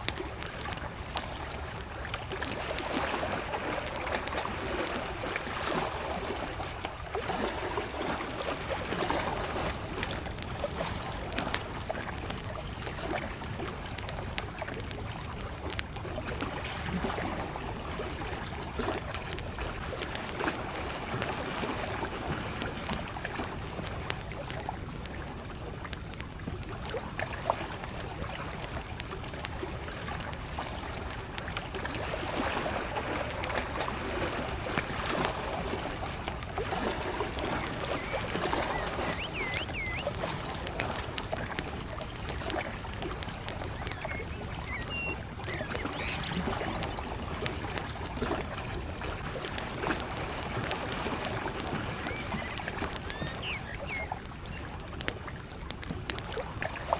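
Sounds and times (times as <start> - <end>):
campfire crackling and popping: 0.0 - 56.9
waves lapping against shore: 0.0 - 56.9.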